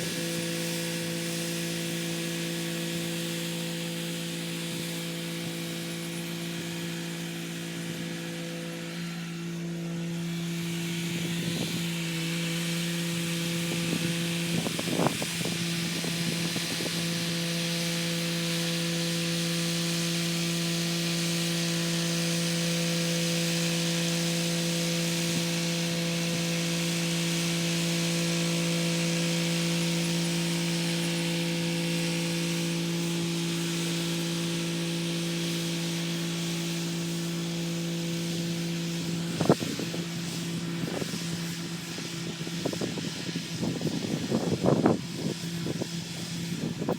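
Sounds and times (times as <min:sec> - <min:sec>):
rotary tiller working: 0:00.0 - 0:46.9.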